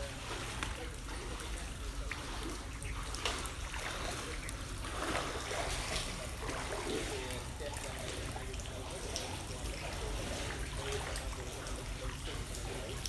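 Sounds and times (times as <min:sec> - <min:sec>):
water sloshing and trickling: 0:00.0 - 0:13.0.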